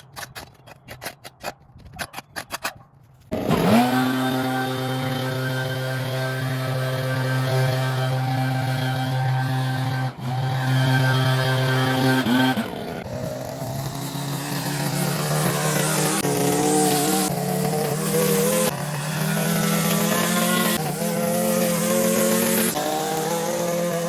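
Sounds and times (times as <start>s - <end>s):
small gasoline engine running: 3.3s - 24.0s.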